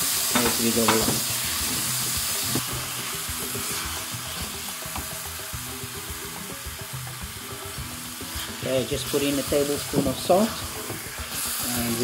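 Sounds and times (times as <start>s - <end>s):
tomatoes sizzling in a pan: 0.0s - 12.0s.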